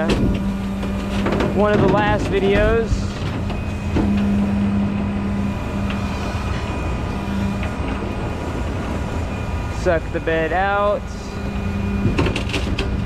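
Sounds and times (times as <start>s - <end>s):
hydraulic whine: 0.0s - 13.0s
truck engine drone: 0.0s - 13.0s.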